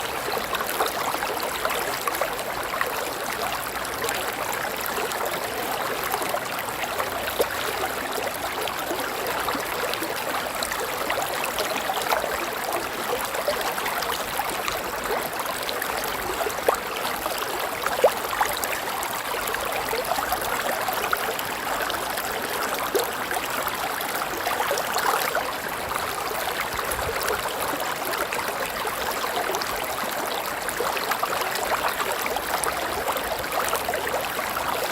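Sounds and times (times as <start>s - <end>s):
river water flowing over rocks: 0.0s - 34.9s.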